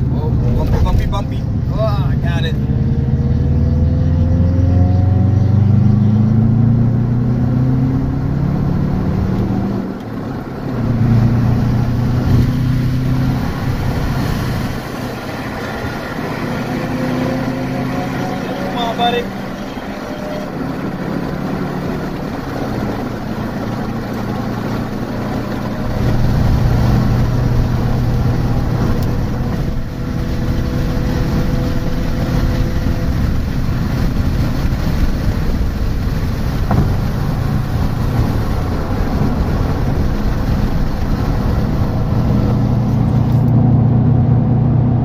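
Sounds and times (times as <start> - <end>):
car engine running from inside cabin: 0.0 - 45.0.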